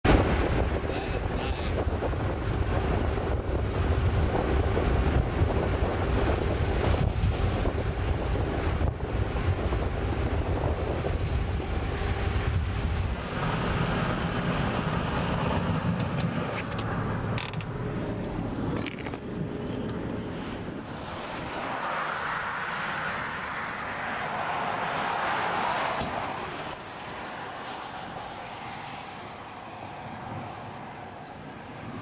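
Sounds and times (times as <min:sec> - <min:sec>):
wind on microphone: 0:00.0 - 0:17.0, 0:17.8 - 0:32.0
vehicle road noise: 0:00.0 - 0:32.0.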